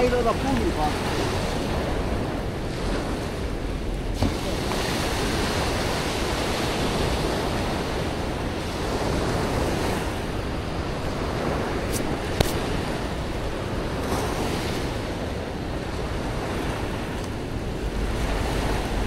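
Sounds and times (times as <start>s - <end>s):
surf washing up beach: 0.0s - 19.0s
wind on microphone: 0.0s - 19.0s.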